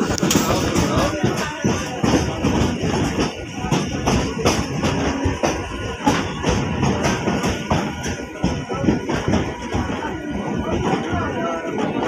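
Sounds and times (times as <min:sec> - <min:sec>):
music with percussion beat: 0:00.0 - 0:10.0.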